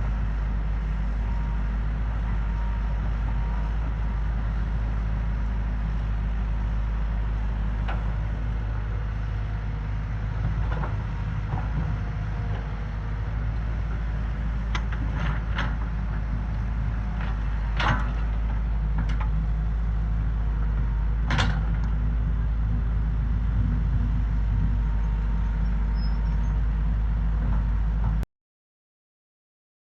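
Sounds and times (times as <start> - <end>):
bulldozer diesel engine rumbling: 0.0 - 28.2.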